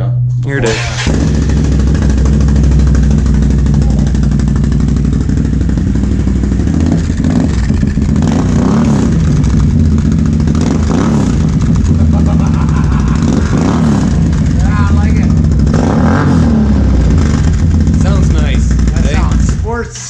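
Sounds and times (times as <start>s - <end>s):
engine throttle blips: 0.0s - 20.0s
engine idling: 0.6s - 20.0s.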